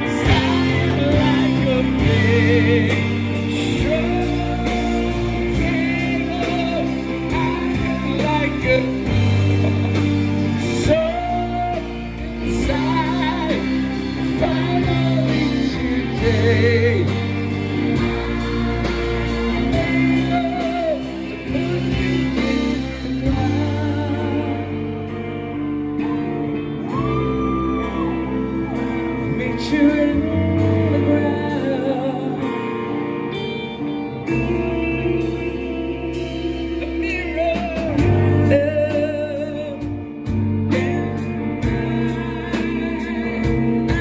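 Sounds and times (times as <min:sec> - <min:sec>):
electric guitars and bass: 0:00.0 - 0:44.0
male singer with vibrato: 0:00.0 - 0:44.0.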